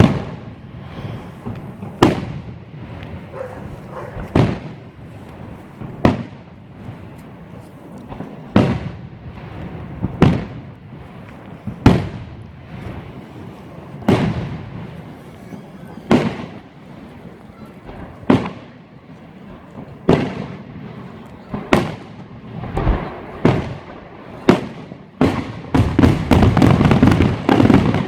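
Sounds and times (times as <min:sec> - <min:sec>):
distant fireworks crackle: 0:00.0 - 0:28.0
loud firework bangs: 0:00.0 - 0:28.0.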